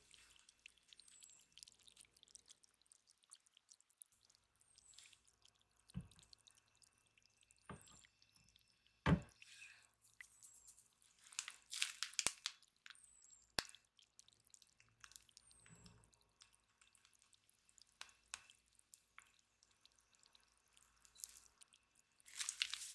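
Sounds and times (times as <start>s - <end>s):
wet squishing of piping bag: 0.0s - 8.7s, 9.4s - 22.9s.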